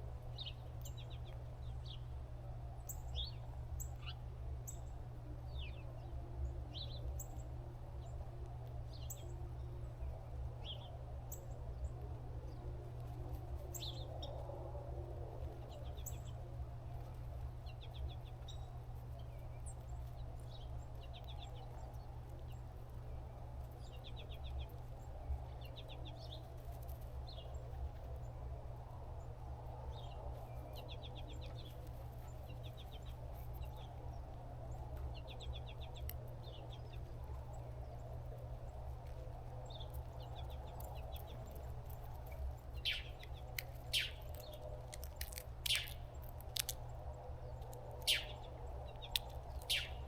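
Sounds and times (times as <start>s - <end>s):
small birds chirping and trilling: 0.0s - 50.0s
steady low rumble: 0.0s - 50.0s.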